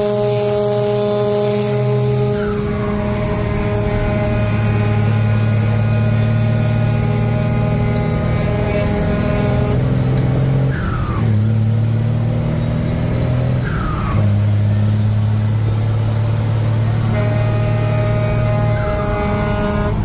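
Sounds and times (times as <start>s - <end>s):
truck engine changing gears: 0.0s - 20.0s.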